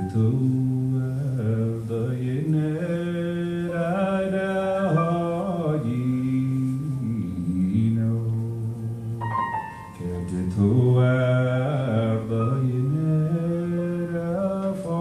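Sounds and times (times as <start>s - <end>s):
man singing slowly: 0.0s - 15.0s.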